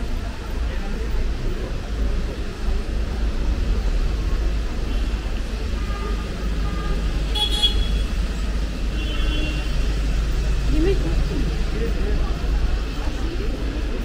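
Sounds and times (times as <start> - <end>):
vehicles passing with low rumble: 0.0 - 14.0.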